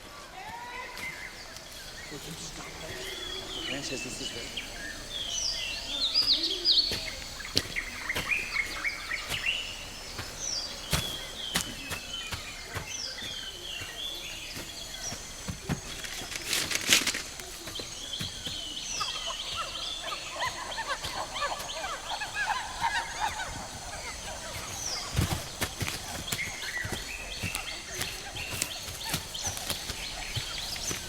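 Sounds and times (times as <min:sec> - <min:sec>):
bird-like chirping calls: 0:00.8 - 0:31.0.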